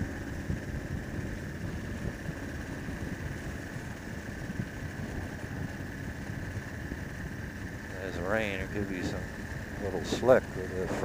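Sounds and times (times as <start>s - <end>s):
motorcycle engine running: 0.0s - 11.0s
thin steady whine: 0.0s - 11.0s
wind and road noise: 0.0s - 11.0s.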